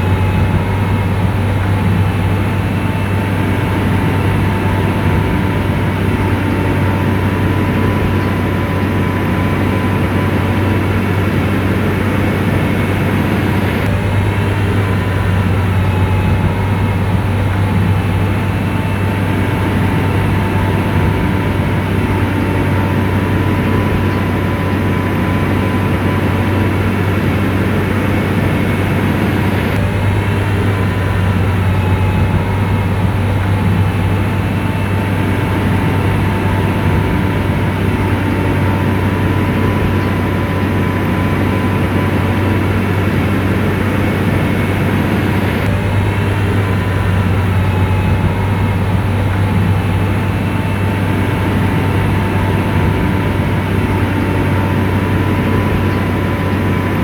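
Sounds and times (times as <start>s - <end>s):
bulldozer diesel engine running: 0.0s - 57.0s
thin steady whine: 0.0s - 57.0s.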